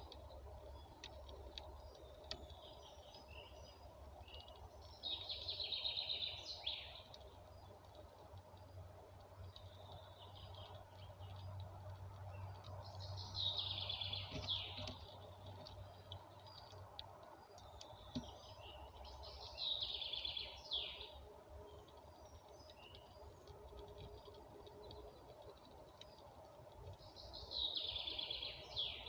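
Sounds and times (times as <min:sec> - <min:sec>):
faint bird chirps: 0:00.0 - 0:08.0, 0:09.4 - 0:23.6, 0:26.0 - 0:29.0.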